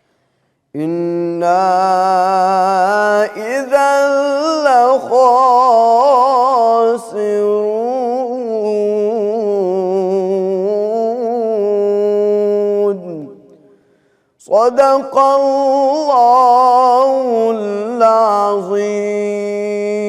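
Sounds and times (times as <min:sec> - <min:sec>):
man chanting melodically: 0:00.8 - 0:13.5, 0:14.4 - 0:20.0.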